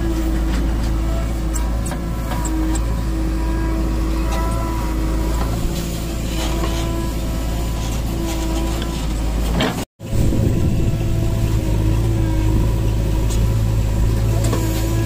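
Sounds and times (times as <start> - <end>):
diesel engine running under load: 0.0 - 15.0
hydraulics whining: 0.0 - 15.0.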